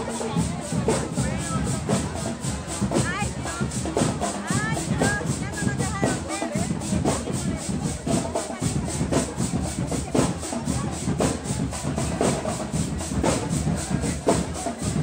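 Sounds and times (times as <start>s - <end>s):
marching band percussion: 0.0s - 15.0s
strong drum strokes: 0.0s - 15.0s.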